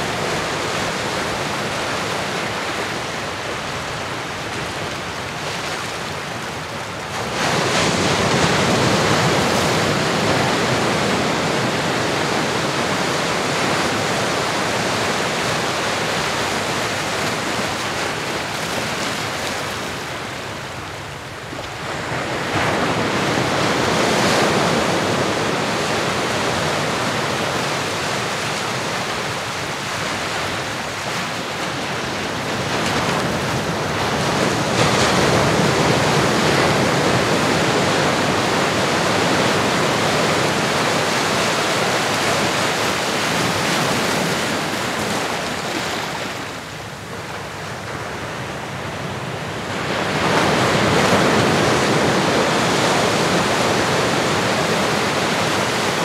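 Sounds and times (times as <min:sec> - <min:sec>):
ocean waves washing: 0:00.0 - 0:56.0.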